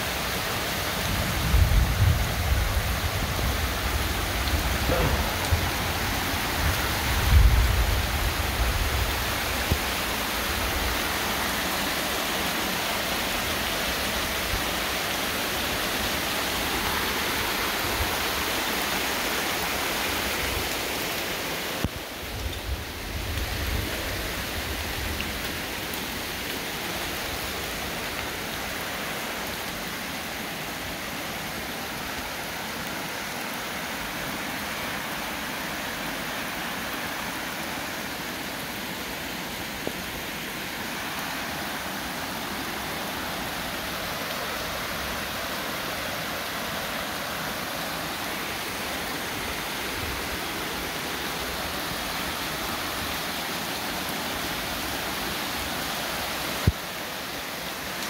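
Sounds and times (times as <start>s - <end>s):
heavy rain falling: 0.0s - 58.0s
water rushing down a slope: 0.0s - 58.0s.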